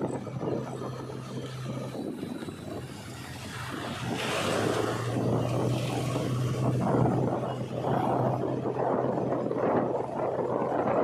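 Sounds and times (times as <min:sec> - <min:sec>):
diesel engine drone: 0:00.0 - 0:11.0
tyre and wind noise: 0:00.0 - 0:11.0.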